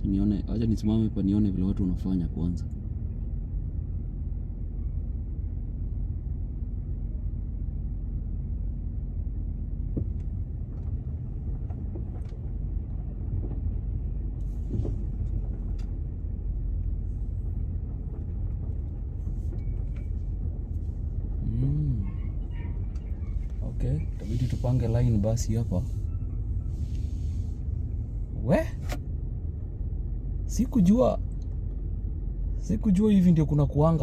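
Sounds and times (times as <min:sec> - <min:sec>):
car engine low rumble: 0:00.0 - 0:34.0.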